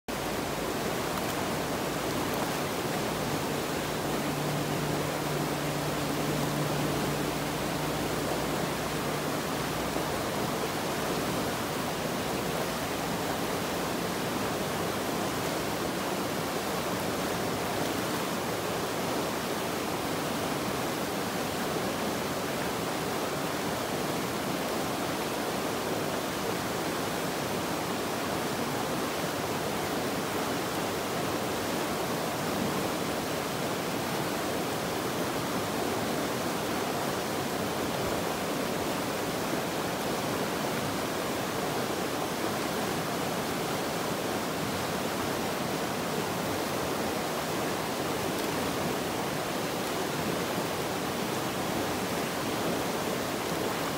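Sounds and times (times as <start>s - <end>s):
river rushing over rocks: 0.1s - 53.9s.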